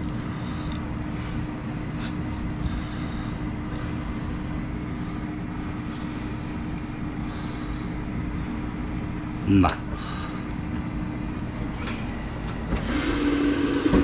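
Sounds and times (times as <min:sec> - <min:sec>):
fan whirring: 0:00.0 - 0:14.0.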